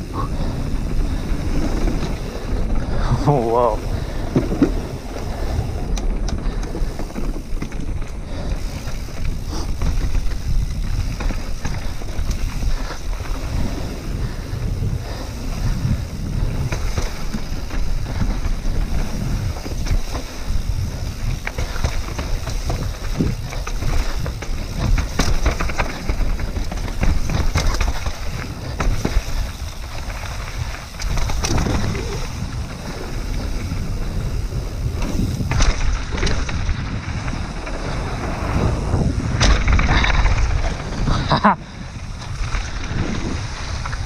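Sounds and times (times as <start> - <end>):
bike rattling and knocking: 0.0 - 44.0
wind rushing over microphone: 0.0 - 44.0.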